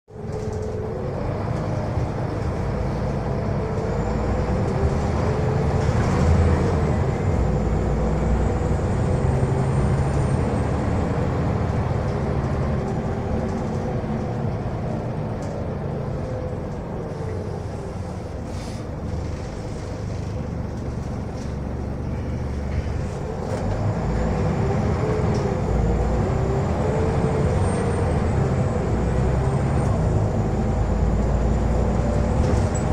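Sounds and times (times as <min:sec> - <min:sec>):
bus diesel engine droning: 0:00.1 - 0:32.9.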